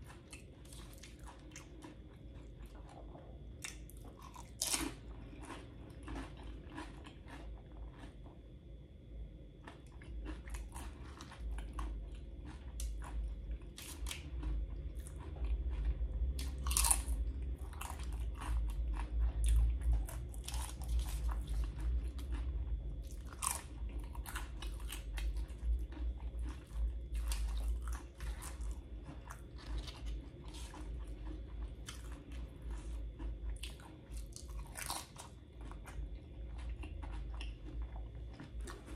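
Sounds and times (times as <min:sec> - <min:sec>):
low chewing rumble: 0:00.0 - 0:38.9
chips crunching: 0:03.6 - 0:08.3, 0:09.6 - 0:38.9.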